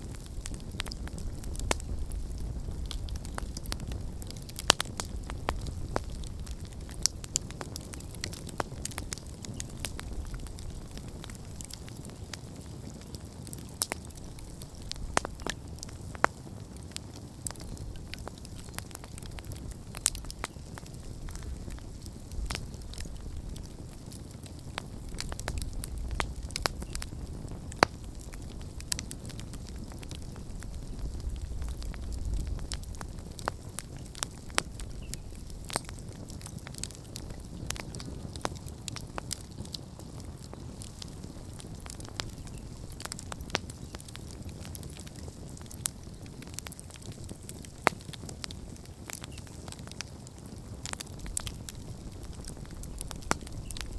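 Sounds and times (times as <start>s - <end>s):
campfire crackling and popping: 0.0s - 53.9s
low fire rumble: 0.0s - 53.9s.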